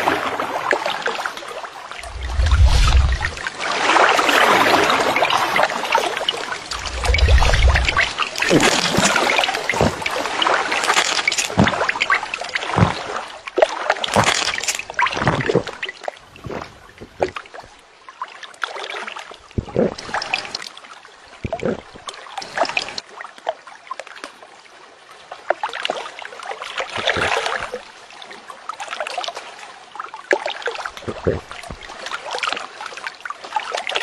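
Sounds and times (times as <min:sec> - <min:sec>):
water splashing and sloshing: 0:00.0 - 0:34.0.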